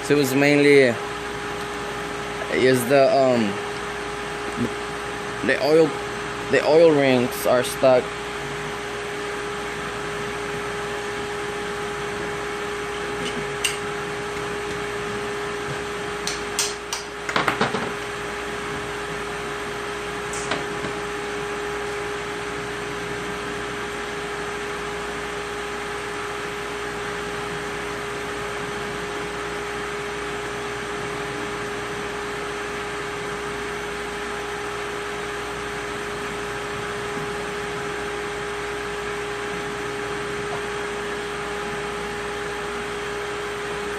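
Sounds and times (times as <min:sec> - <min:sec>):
electric motor hum: 0:00.0 - 0:17.3, 0:17.9 - 0:43.9.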